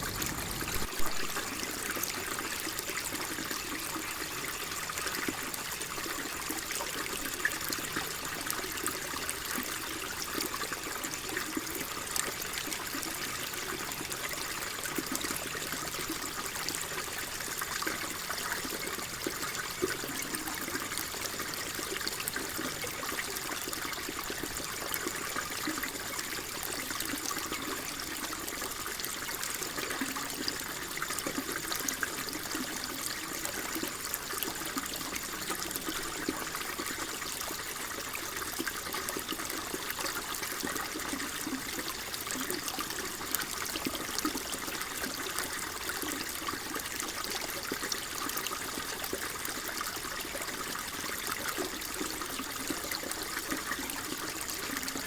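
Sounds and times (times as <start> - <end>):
water flowing and trickling: 0.0 - 55.0.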